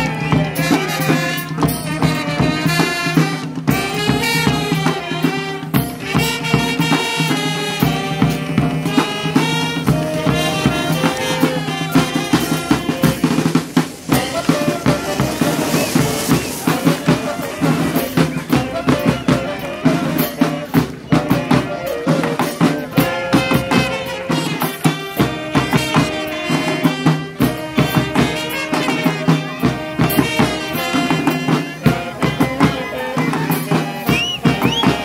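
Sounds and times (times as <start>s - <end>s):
brass melody: 0.0s - 35.0s
snare and bass drum beats: 0.0s - 35.0s.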